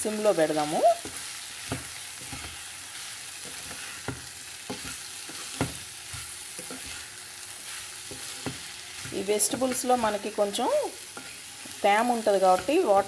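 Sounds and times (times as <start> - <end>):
vegetables sizzling in a pan: 0.0 - 13.0
wooden spatula stirring: 0.6 - 10.4, 11.0 - 13.0.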